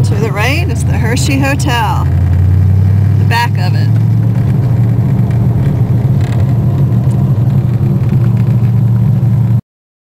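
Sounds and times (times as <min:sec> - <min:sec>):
car engine droning steadily: 0:00.0 - 0:09.6.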